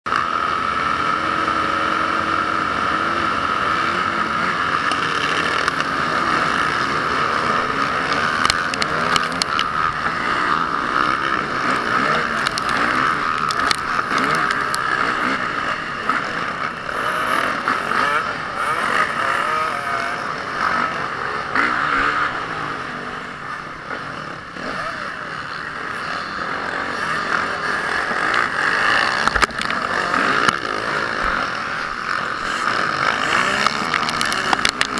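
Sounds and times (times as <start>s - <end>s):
motorcycle engines revving: 0.1s - 34.9s.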